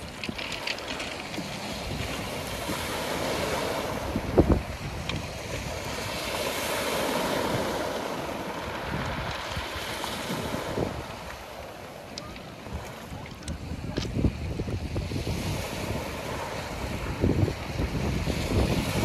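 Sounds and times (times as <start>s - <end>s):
wind buffeting microphone: 0.0s - 11.6s, 12.2s - 19.0s
waves washing over pebbles: 0.0s - 19.0s.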